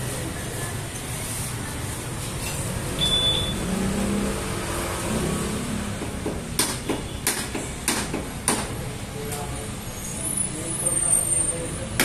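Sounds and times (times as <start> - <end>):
shop and traffic rumble: 0.0 - 12.0.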